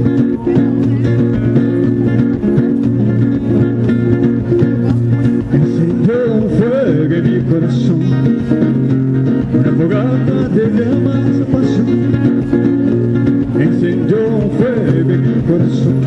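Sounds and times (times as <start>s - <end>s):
picked and strummed guitars: 0.0s - 16.0s.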